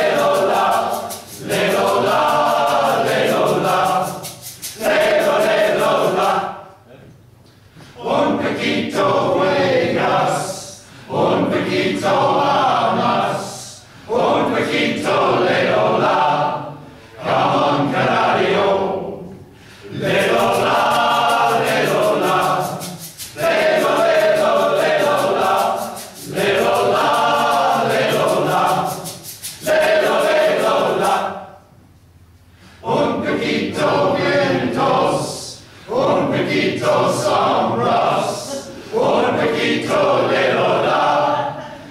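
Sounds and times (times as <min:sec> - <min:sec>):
men's choir singing: 0:00.0 - 0:06.8, 0:08.0 - 0:31.6, 0:32.8 - 0:41.9.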